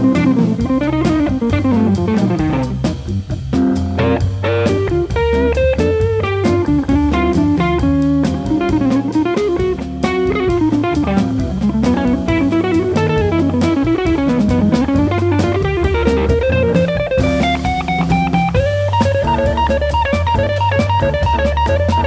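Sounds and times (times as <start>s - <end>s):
electric guitar solo: 0.0s - 2.9s, 4.0s - 22.0s
drum kit: 0.0s - 22.0s
organ bass notes: 0.0s - 22.0s.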